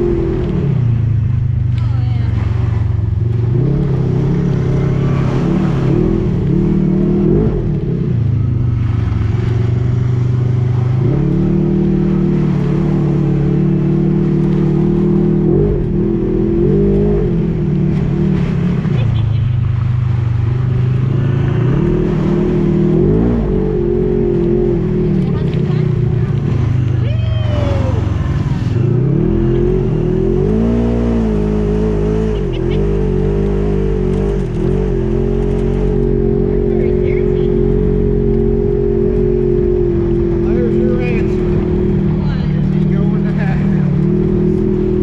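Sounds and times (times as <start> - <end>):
atv engine revving: 0.0 - 45.0.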